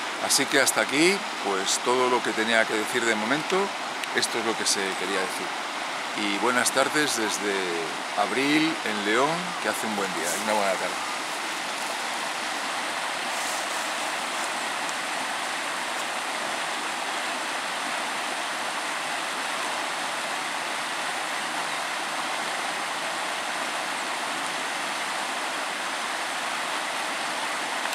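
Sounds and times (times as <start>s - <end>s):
river rushing over rocks: 0.0s - 27.9s.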